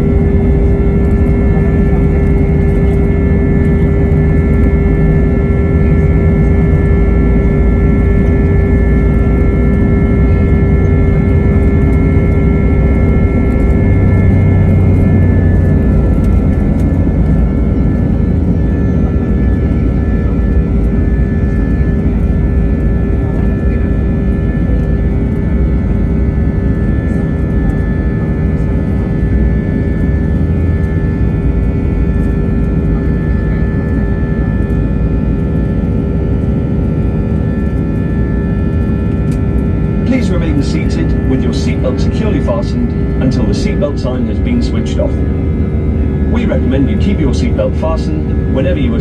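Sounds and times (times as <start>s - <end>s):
jet engines rumbling in cabin: 0.0s - 49.0s.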